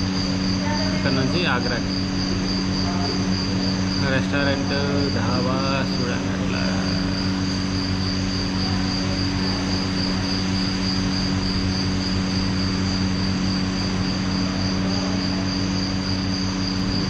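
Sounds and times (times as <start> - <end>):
electric fans whirring: 0.0 - 17.0
thin high whine: 0.0 - 17.0.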